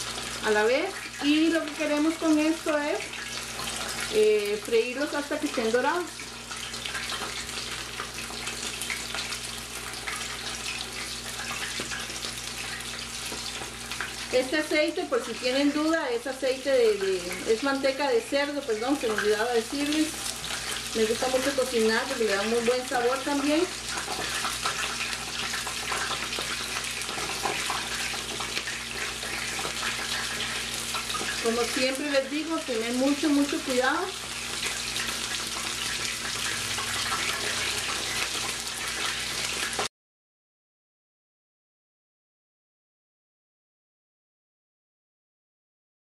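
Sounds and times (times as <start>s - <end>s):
chicken deep-frying sizzle: 0.0s - 39.9s.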